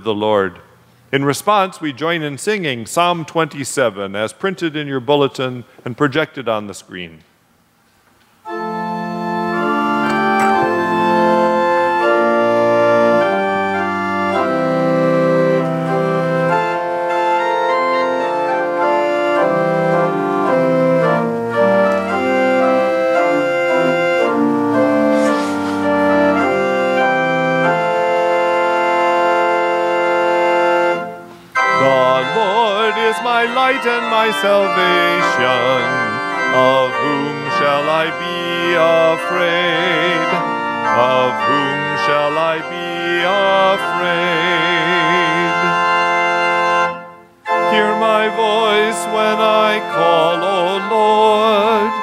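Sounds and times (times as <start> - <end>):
organ playing slow chords: 8.4 - 52.0.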